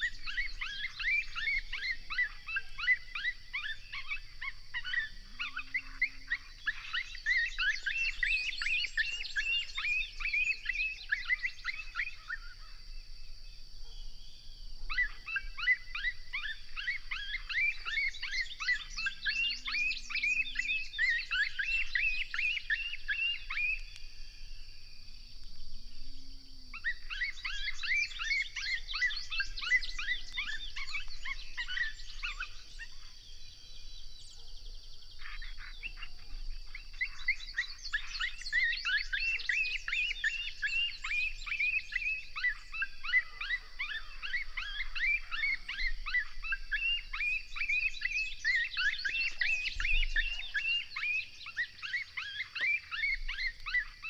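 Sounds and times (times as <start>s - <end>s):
coyotes yipping and yelping: 0.0s - 54.0s.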